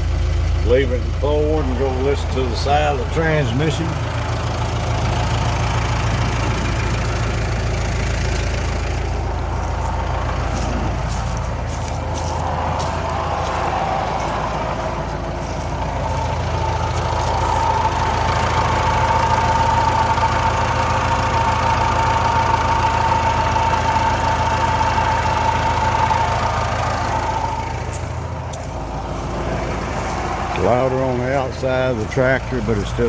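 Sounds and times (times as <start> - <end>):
tractor diesel engine running: 0.0 - 33.0
transmission whine: 0.0 - 33.0.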